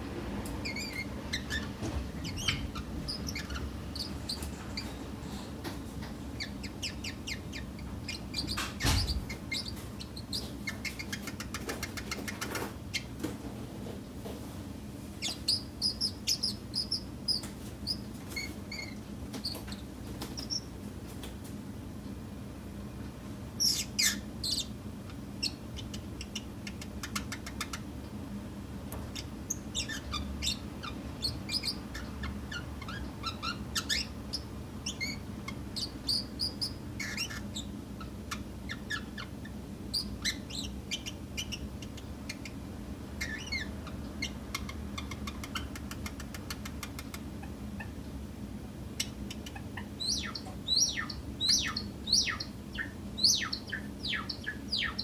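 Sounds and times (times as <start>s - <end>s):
cage birds chirping: 0.0s - 55.0s
steady low hum: 0.0s - 55.0s.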